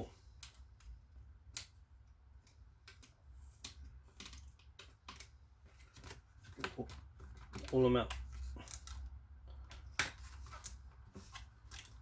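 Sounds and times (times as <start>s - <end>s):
small plastic clicks and taps: 0.4s - 10.8s.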